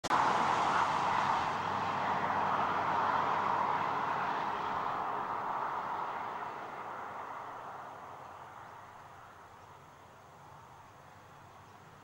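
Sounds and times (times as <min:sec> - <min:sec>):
steady rain hiss: 0:00.2 - 0:12.0.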